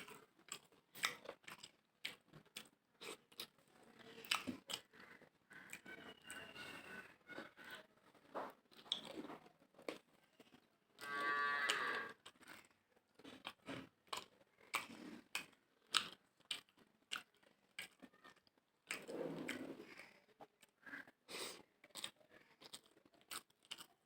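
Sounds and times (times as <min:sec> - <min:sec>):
wet chewing and lip smacks: 0:00.0 - 0:06.7, 0:08.7 - 0:10.7, 0:11.6 - 0:24.0.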